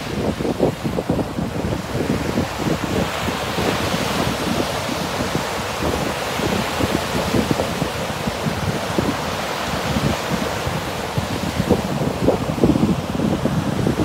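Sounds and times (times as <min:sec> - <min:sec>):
waves washing up a pebbly beach: 0:00.0 - 0:14.0
wind rumbling on microphone: 0:00.0 - 0:14.0.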